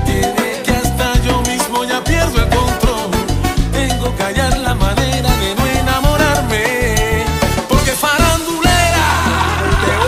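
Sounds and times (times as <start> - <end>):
salsa band playing: 0.0 - 10.0.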